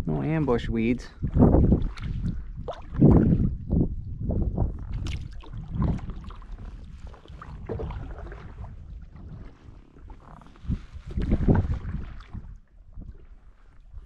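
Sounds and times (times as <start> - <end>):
wind rumble on microphone: 0.0 - 14.0
paddle splashing in water: 1.3 - 3.6, 4.8 - 14.0.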